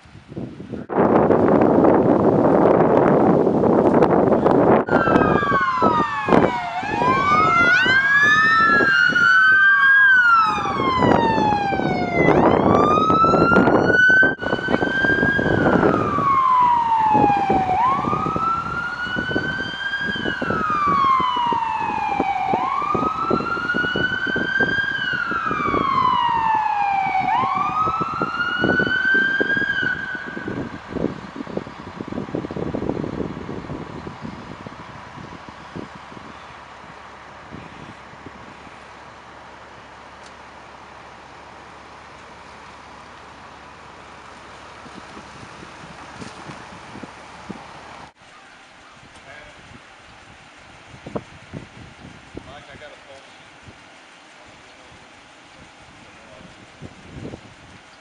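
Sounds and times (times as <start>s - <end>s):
wind rumble on microphone: 0.0s - 40.5s, 42.4s - 48.2s, 48.9s - 58.0s
emergency sirens wailing: 1.5s - 51.4s.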